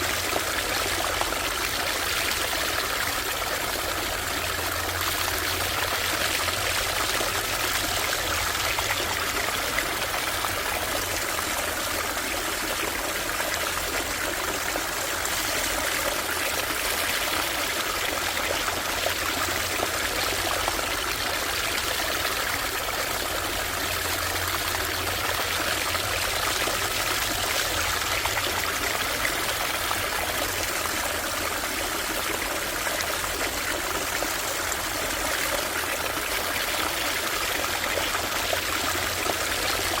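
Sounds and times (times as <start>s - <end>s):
stream trickling over stones: 0.0s - 40.0s.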